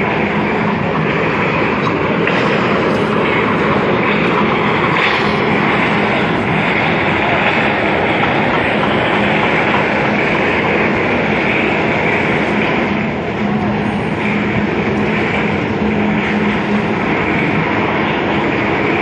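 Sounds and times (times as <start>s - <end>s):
train wheels rolling on track: 0.0s - 19.0s.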